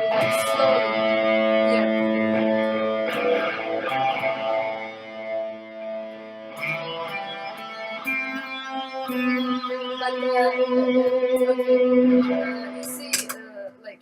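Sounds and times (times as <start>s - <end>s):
electric guitar sustained notes: 0.0s - 14.0s.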